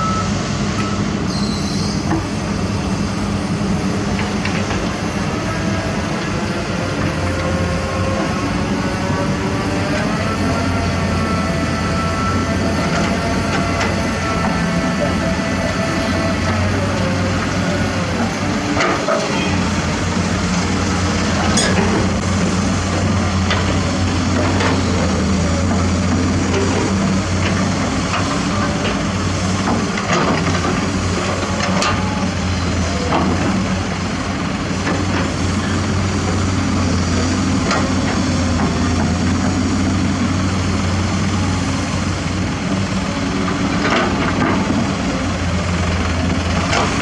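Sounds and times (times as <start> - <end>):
diesel engine droning: 0.0 - 47.0.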